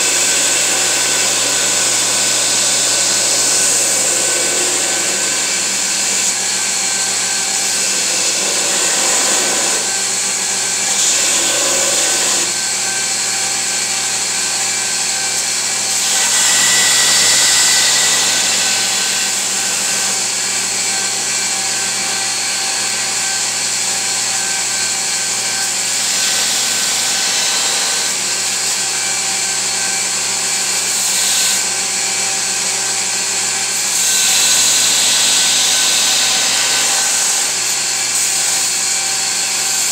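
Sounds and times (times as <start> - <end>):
belt grinder grinding knife blade: 0.0 - 31.8, 33.6 - 39.9.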